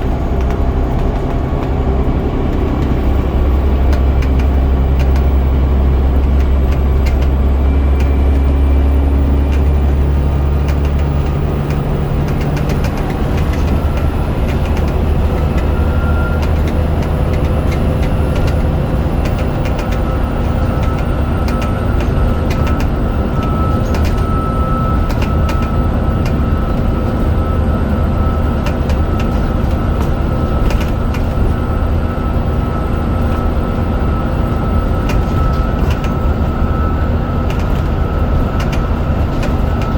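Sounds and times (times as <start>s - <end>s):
bus diesel engine drone: 0.0s - 39.9s
steady whine: 0.0s - 39.9s.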